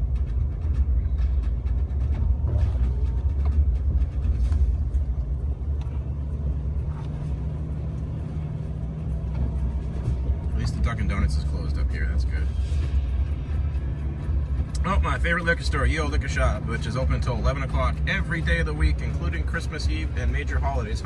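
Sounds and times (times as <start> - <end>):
engine and road rumble: 0.0 - 21.0.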